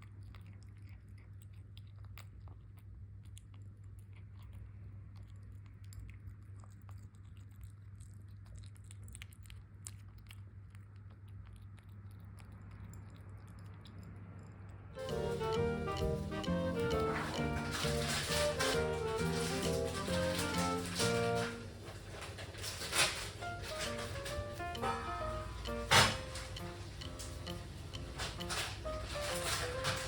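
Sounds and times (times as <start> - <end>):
kitten chewing food: 0.0 - 30.0.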